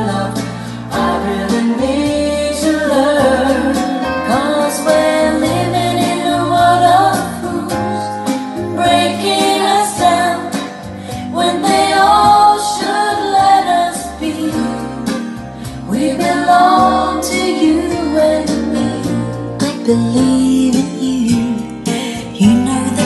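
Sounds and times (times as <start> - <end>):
pop ballad over speakers: 0.0 - 23.0.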